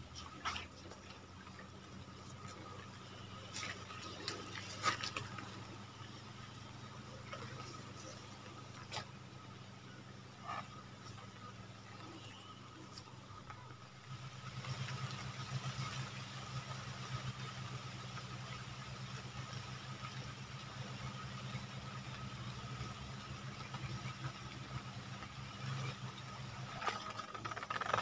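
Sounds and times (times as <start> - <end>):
small engine humming: 0.0 - 28.0.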